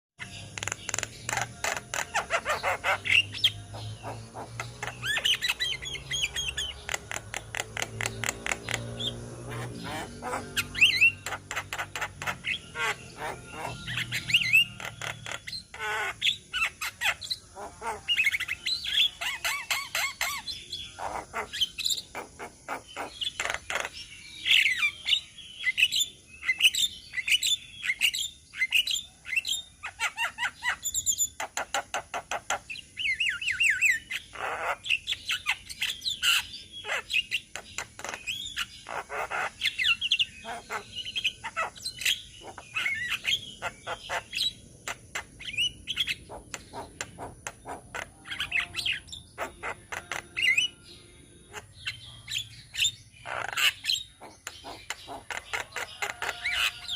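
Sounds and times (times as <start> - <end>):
birds calling with clicks and chirps: 0.2 - 56.9.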